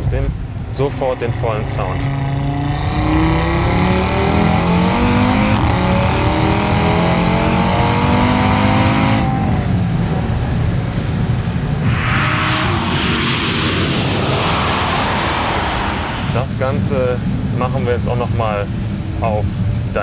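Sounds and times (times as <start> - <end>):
car engine accelerating: 0.6 - 16.9.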